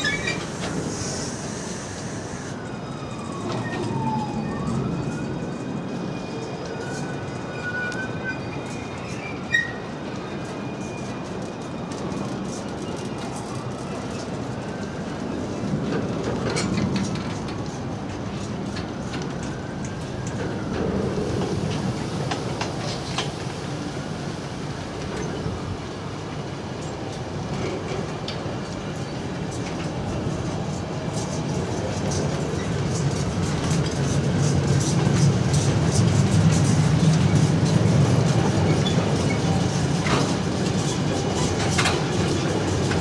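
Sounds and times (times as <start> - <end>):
clickety-clack over rail joints: 0.0 - 1.2, 3.2 - 43.0
train wheels rumbling on rails: 0.0 - 43.0.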